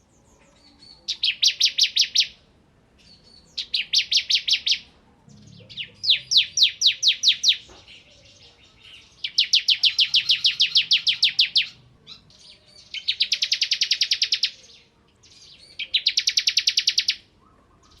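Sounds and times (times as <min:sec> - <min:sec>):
bird singing rapid sharp trills: 0:00.0 - 0:02.4, 0:03.0 - 0:18.0.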